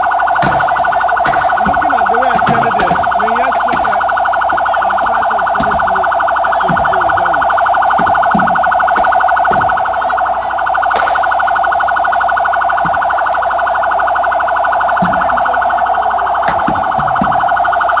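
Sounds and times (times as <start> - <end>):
electronic siren warbling: 0.0 - 18.0
faint shouting voices: 0.0 - 18.0.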